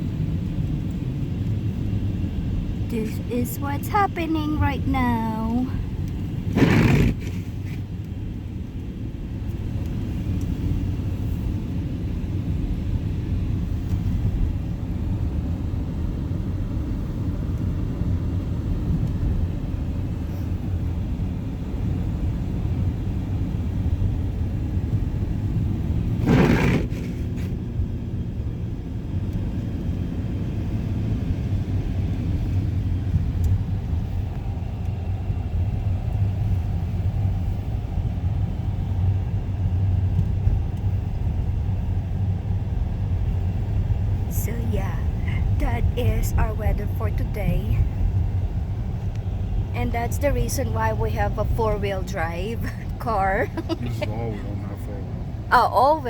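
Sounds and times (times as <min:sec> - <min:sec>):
car driving heard from inside: 0:00.0 - 0:56.0.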